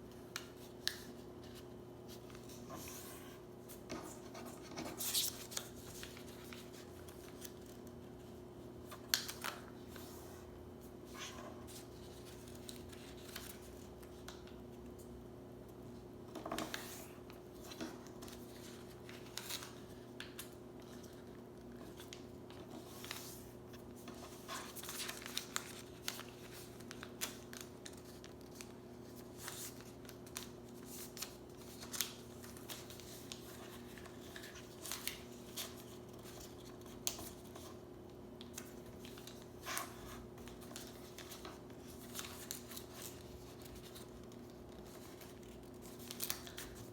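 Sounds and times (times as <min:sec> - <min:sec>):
paper being folded and creased: 0:03.7 - 0:10.4, 0:11.1 - 0:14.5, 0:16.4 - 0:37.8, 0:38.4 - 0:46.9.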